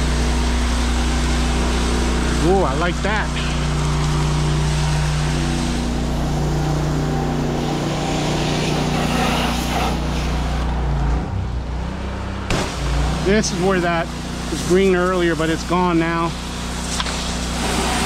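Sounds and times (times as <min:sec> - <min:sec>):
water spray hissing on wall: 0:00.0 - 0:10.6, 0:13.3 - 0:18.0
pressure washer engine drone: 0:00.0 - 0:18.0.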